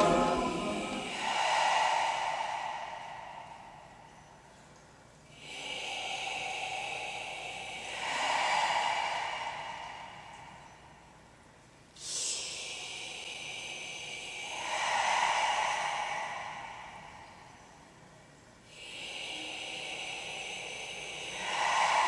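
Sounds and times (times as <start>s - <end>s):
breathy hissing: 0.0s - 4.5s, 5.3s - 11.2s, 12.0s - 22.0s.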